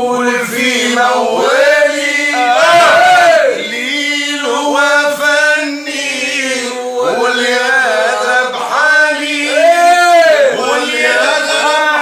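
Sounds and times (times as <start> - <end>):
male lead voice singing: 0.0 - 12.0
men singing unaccompanied: 0.0 - 12.0.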